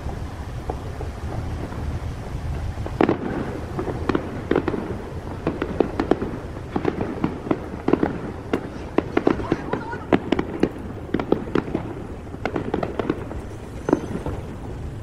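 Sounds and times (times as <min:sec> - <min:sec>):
fireworks cracks and pops: 0:00.0 - 0:15.0
fireworks low rumble: 0:00.0 - 0:15.0.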